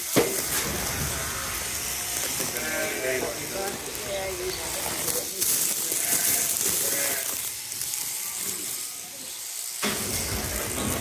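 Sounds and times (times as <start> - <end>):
electric shears buzzing: 0.0 - 11.0.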